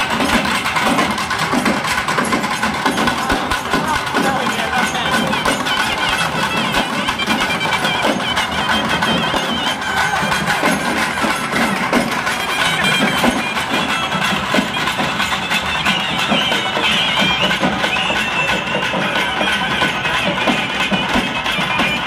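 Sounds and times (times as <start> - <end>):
drums beating: 0.0 - 22.0
reed instrument high melody: 0.0 - 22.0.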